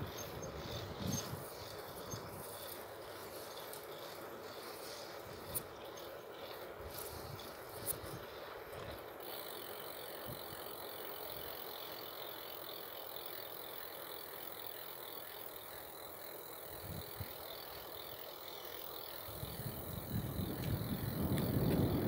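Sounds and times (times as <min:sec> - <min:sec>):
bicycle freewheel ticking: 0:00.0 - 0:22.0.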